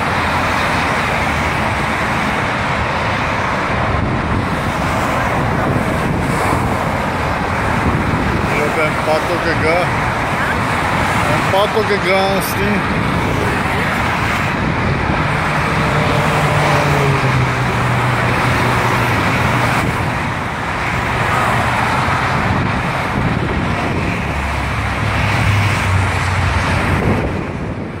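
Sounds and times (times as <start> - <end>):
passing vehicle engine hum: 0.0 - 28.0
tyres rushing on road: 0.0 - 28.0.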